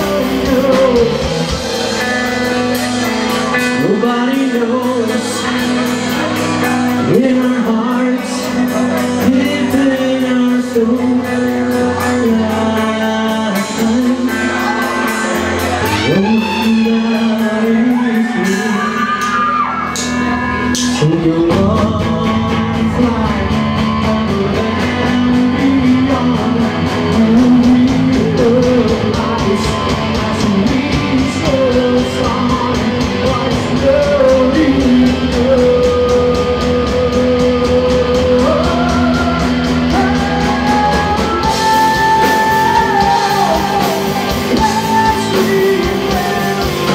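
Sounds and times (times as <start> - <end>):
electric guitar lead bending pitch: 0.0 - 46.9
rock band playing live: 0.0 - 46.9.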